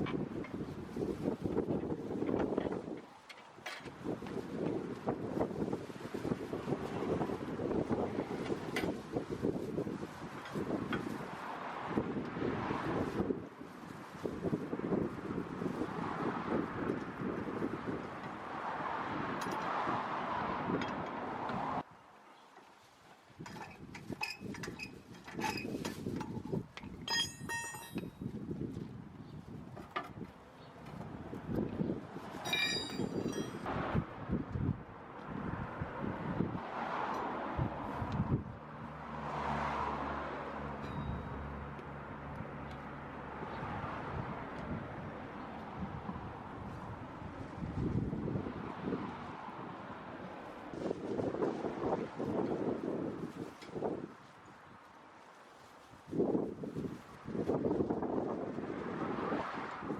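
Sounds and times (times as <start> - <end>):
wind buffeting microphone: 0.0 - 3.1, 3.8 - 21.9, 23.4 - 38.7, 43.4 - 54.8, 55.8 - 59.9.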